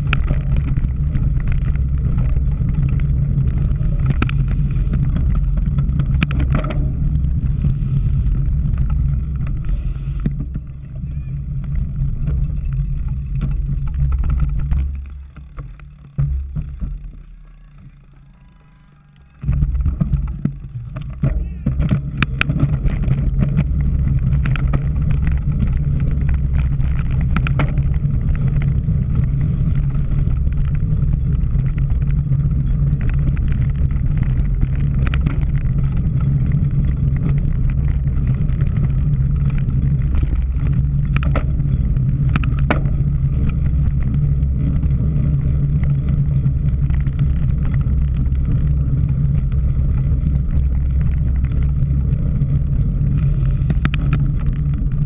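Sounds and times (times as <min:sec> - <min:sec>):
bike clicks and rattles: 0:00.0 - 0:55.0
bike tyre rumble: 0:00.0 - 0:55.0.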